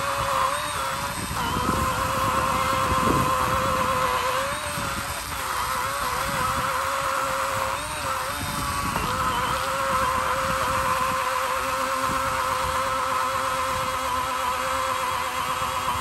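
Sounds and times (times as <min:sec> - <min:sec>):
chainsaw cutting log: 0:00.0 - 0:16.0.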